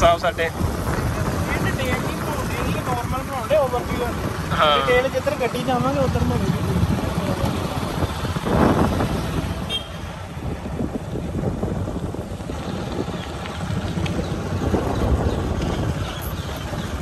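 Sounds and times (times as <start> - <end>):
vehicle road rumble: 0.0 - 17.0
wind buffeting microphone: 0.0 - 17.0.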